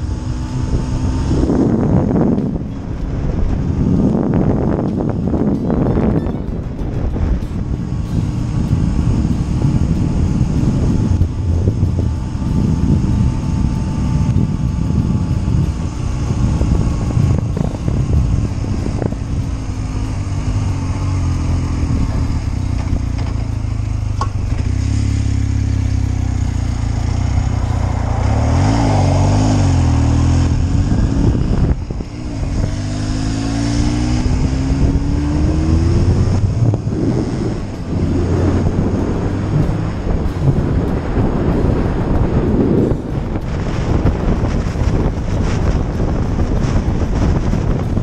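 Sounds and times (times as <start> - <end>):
motorcycle engine running: 0.0 - 48.0
wind rushing over microphone: 0.0 - 48.0.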